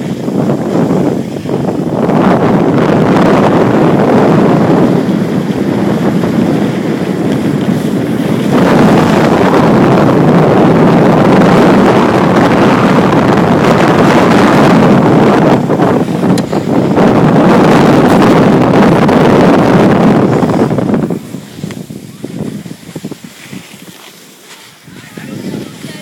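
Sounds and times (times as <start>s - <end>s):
skis sliding on packed snow: 0.0s - 2.5s, 3.2s - 26.0s
wind rushing over microphone: 0.0s - 26.0s.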